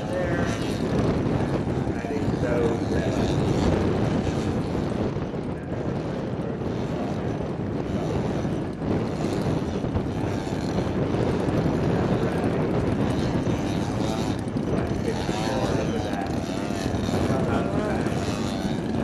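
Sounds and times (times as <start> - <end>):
model plane engine running: 0.0 - 19.0
wind buffeting microphone: 0.0 - 19.0.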